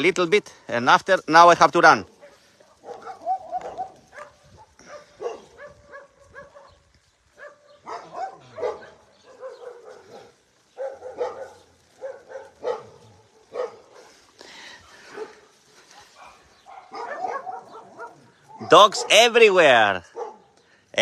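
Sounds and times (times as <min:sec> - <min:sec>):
dogs barking: 0:02.0 - 0:20.7.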